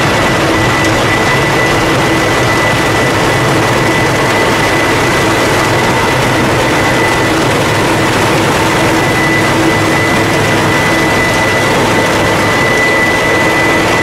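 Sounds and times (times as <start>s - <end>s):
constant high whine: 0.0s - 14.0s
snow blower engine running: 0.0s - 14.0s.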